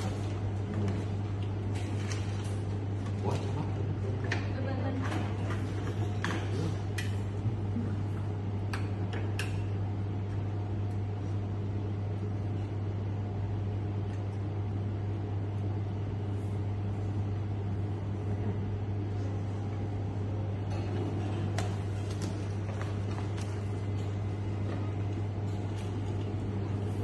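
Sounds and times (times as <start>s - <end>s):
low machinery hum: 0.0s - 27.0s.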